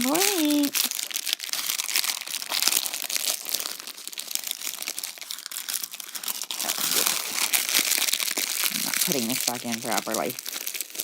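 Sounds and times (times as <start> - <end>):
paper packaging crinkling: 0.0 - 11.0.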